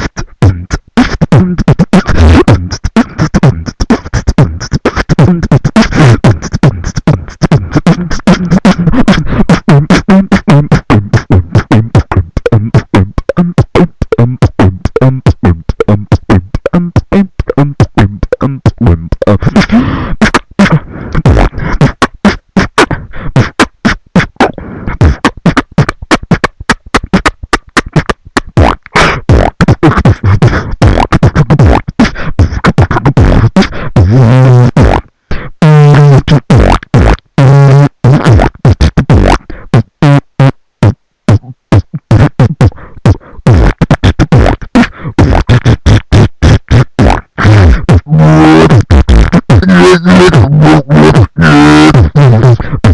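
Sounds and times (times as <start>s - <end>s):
person beatboxing: 0.0s - 52.9s.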